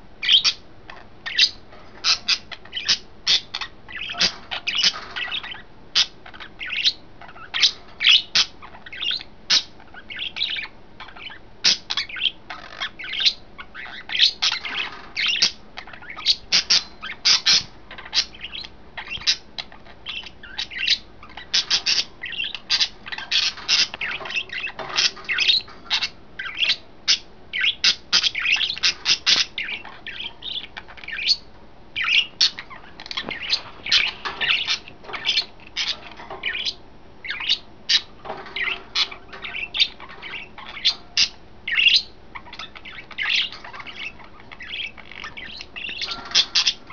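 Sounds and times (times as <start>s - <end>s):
budgerigar squawks: 0.2s - 46.9s
budgerigars chirping: 0.2s - 46.9s.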